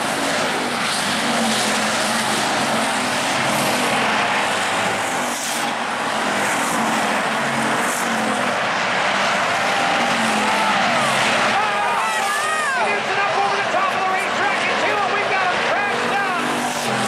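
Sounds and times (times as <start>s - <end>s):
race car engines roaring: 0.0s - 17.0s
race car passing close: 0.0s - 17.0s.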